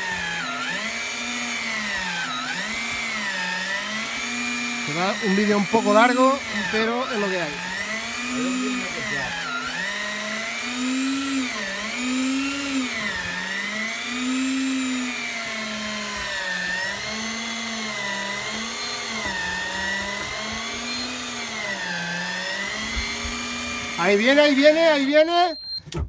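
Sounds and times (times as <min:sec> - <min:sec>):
electric fishing reel motor whine: 0:00.0 - 0:25.2.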